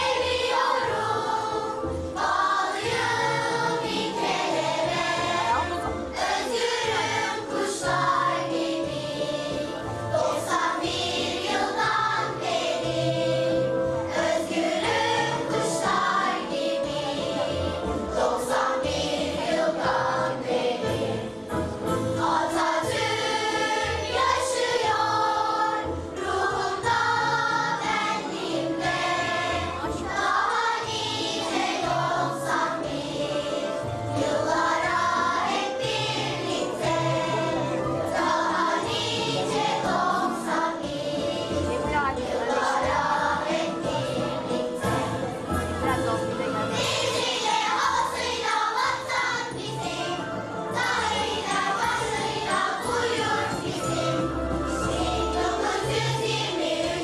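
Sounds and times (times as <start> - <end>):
choir singing in unison: 0.0 - 45.7, 46.7 - 57.0
instrumental accompaniment: 0.0 - 57.0.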